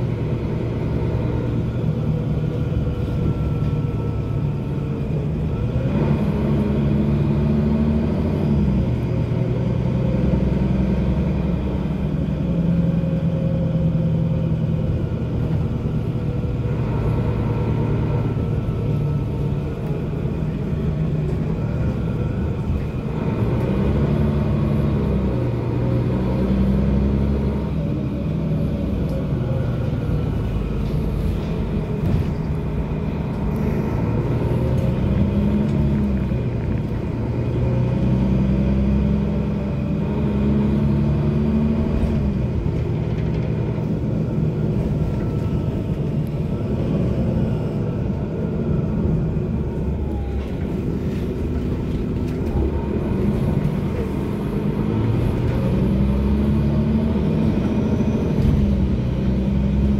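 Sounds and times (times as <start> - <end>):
bus engine drone: 0.0 - 59.9
road rumble: 0.0 - 59.9.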